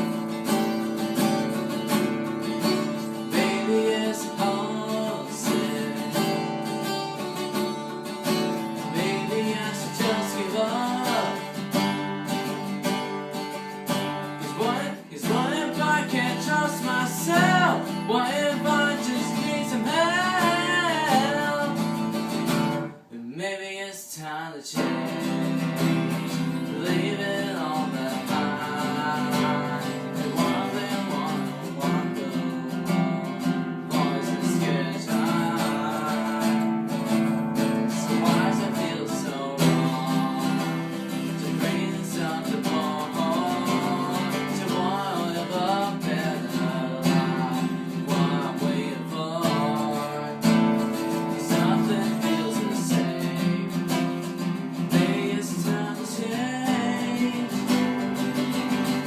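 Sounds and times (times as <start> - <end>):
acoustic guitar strumming: 0.0 - 23.5, 24.6 - 59.0
person singing: 2.4 - 13.1, 14.0 - 59.0.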